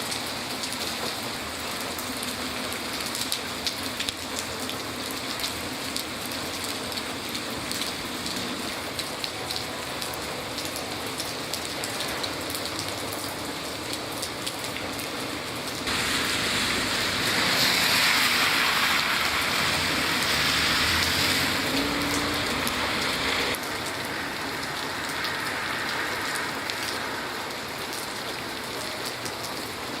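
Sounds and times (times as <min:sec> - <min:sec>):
hissy rush of rain: 0:00.0 - 0:30.0
rain drops ticking: 0:00.0 - 0:30.0.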